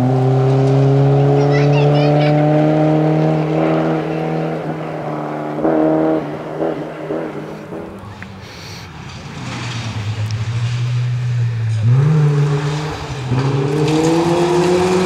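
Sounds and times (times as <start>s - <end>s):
rally car engine running hard: 0.0s - 8.2s, 9.0s - 15.0s.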